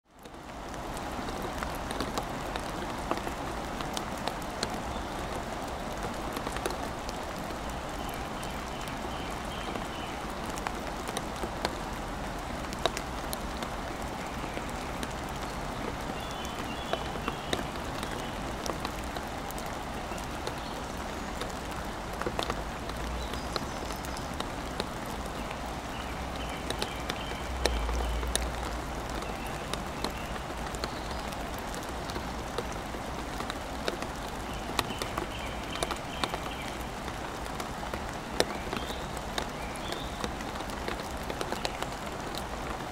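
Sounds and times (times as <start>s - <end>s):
steady rain: 0.0s - 42.9s
raindrops tapping on wood: 0.1s - 42.9s.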